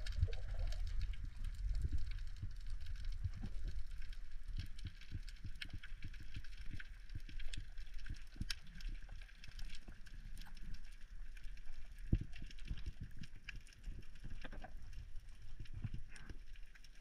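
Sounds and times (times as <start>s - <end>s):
sharp clicks and crackles: 0.0s - 17.0s.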